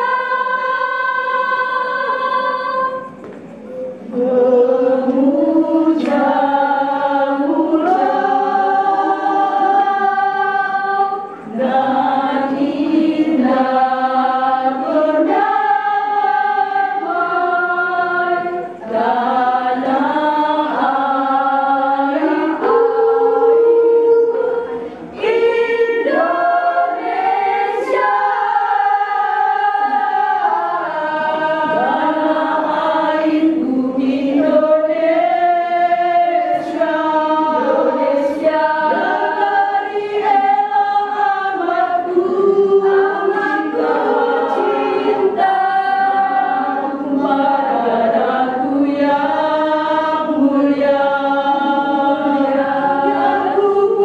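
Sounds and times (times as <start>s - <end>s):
women's choir singing in harmony: 0.0s - 54.0s.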